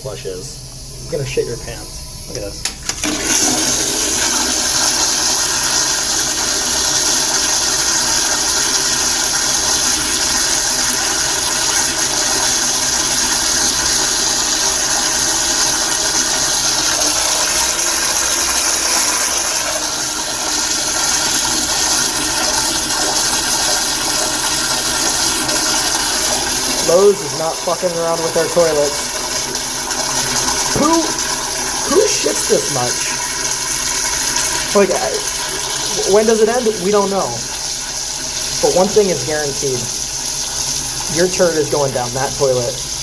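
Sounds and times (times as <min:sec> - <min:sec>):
toilet flushing: 0:00.0 - 0:43.0.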